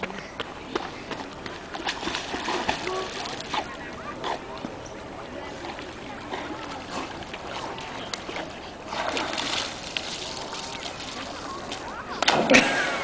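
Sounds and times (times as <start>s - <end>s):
dog swimming splashing water: 0.7s - 13.0s.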